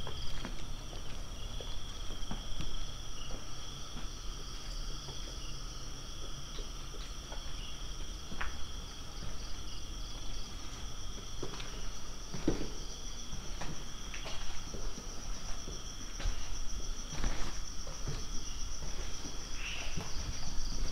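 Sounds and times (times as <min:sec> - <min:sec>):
crickets and night insects: 0:00.0 - 0:20.9.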